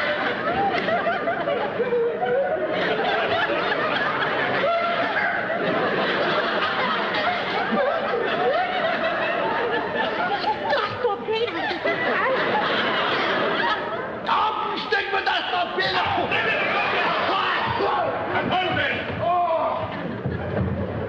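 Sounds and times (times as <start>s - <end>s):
studio audience laughing: 0.0s - 14.3s, 15.9s - 19.0s.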